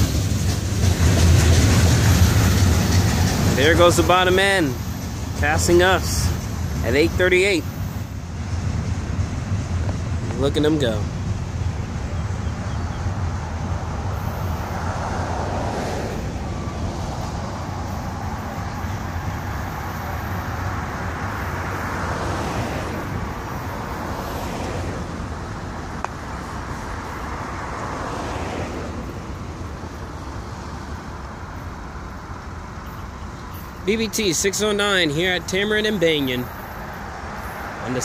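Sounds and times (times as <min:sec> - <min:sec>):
cars passing: 0:00.0 - 0:38.0.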